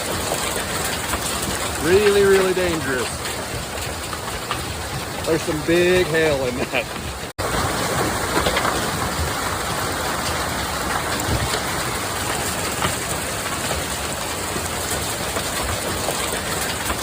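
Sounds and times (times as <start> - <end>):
hailstones pelting down: 0.0 - 17.0.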